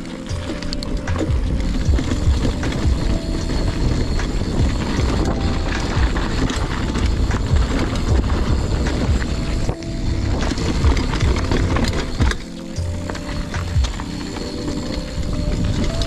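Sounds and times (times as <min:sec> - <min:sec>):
mountain bike rattling over trail: 0:00.0 - 0:16.0.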